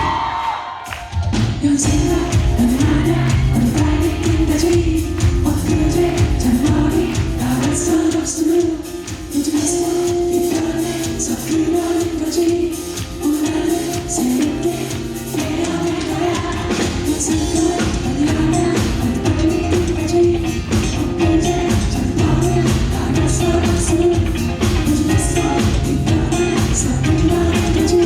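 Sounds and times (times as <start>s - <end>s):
live pop band playing: 0.0s - 28.0s
person singing: 0.0s - 28.0s.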